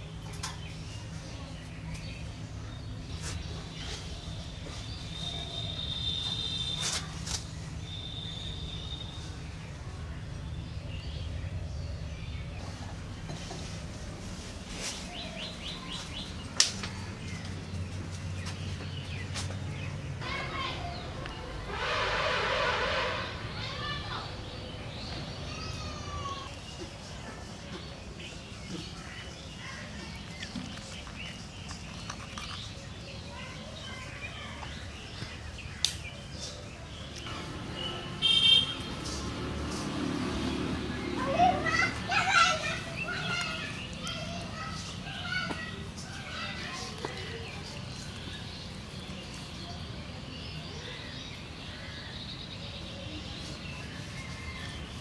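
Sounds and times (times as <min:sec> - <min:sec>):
birds chirping faintly: 0:00.0 - 0:55.0.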